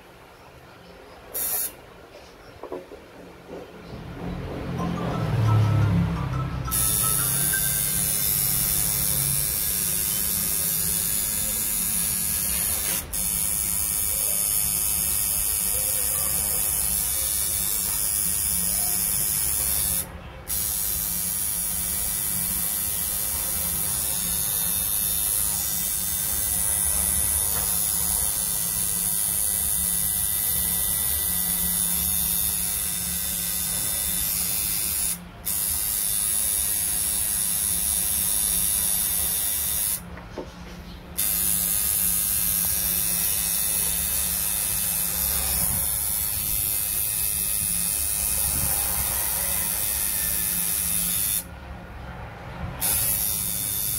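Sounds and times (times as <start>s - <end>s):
tattoo machine buzzing: 1.3s - 1.8s, 6.6s - 40.1s, 41.2s - 51.5s, 52.8s - 53.9s.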